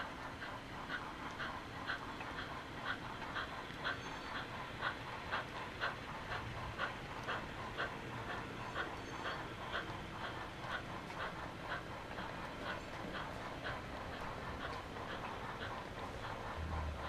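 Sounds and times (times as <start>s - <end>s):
model steam locomotive chuffing: 0.0s - 17.0s
train rumbling on track: 0.0s - 17.0s.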